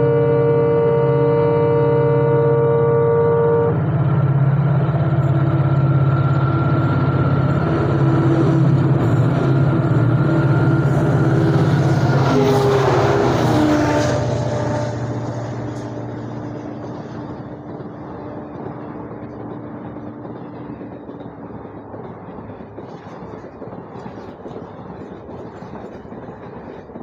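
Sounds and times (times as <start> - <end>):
locomotive engine hum: 0.0 - 27.0
train wheels rumbling on rails: 0.0 - 27.0.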